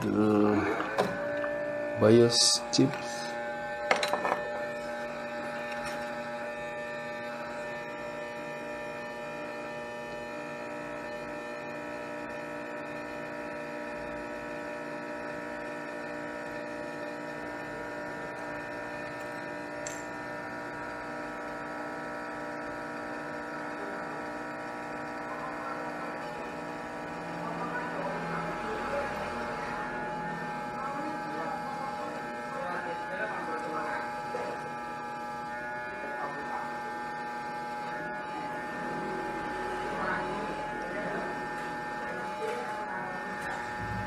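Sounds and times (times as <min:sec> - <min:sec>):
electrical hum: 0:00.0 - 0:44.0.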